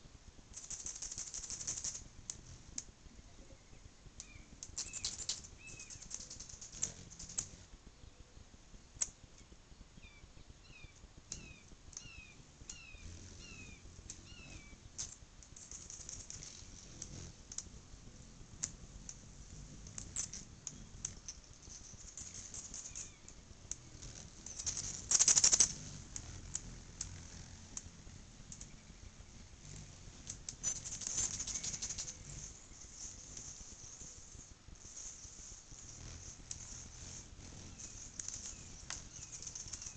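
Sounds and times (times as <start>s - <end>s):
buzzy hummingbird chattering: 0.5s - 8.2s, 8.8s - 39.9s
hummingbird chip notes: 0.6s - 39.9s.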